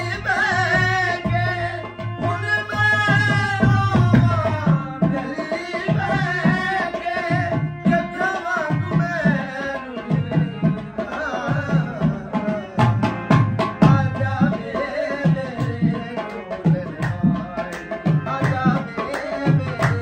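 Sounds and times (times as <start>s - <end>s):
harmonium chords: 0.0s - 20.0s
man singing: 0.0s - 20.0s.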